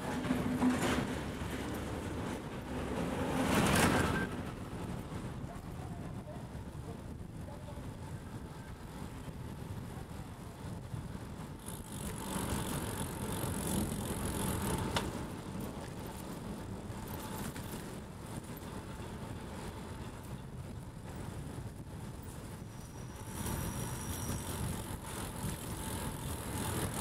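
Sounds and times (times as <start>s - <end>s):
bicycle rolling on road: 0.0s - 27.0s
low rumble of road noise: 0.0s - 27.0s
wind noise: 0.0s - 27.0s.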